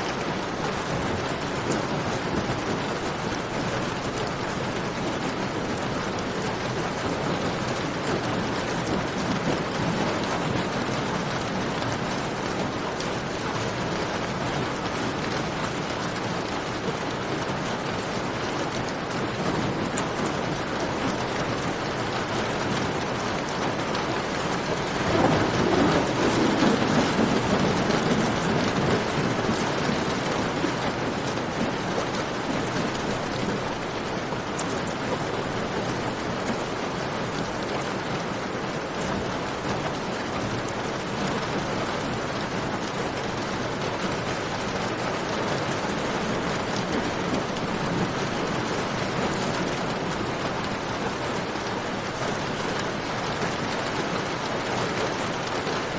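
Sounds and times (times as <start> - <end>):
thunder rumble: 0.0 - 51.2
steady rain: 0.0 - 55.9.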